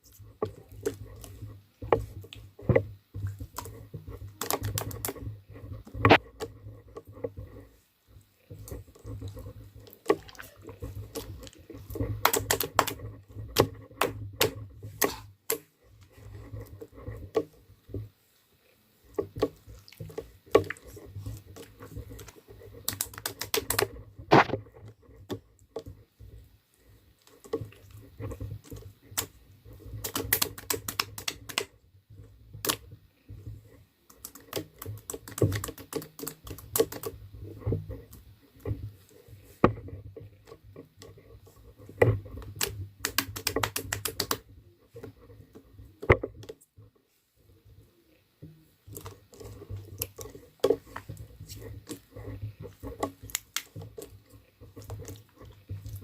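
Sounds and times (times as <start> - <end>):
rapid irregular clicking: 0.0 - 56.0.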